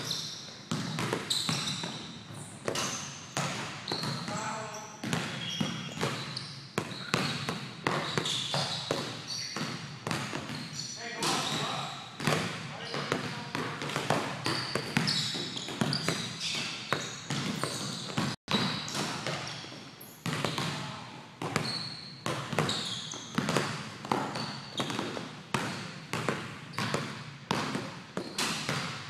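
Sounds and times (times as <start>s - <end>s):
basketball bouncing on gym floor: 0.0s - 29.0s
sneakers squeaking on floor: 0.0s - 29.0s.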